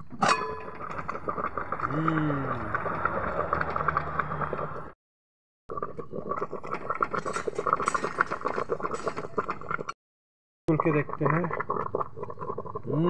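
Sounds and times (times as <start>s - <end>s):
broth boiling and sputtering: 0.1s - 5.0s, 5.7s - 10.0s, 10.7s - 13.0s.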